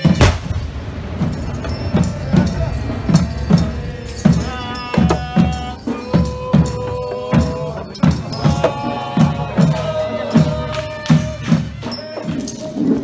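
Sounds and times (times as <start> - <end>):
reed pipe long high notes: 0.0 - 12.0
drums beating slow rhythm: 0.0 - 13.0.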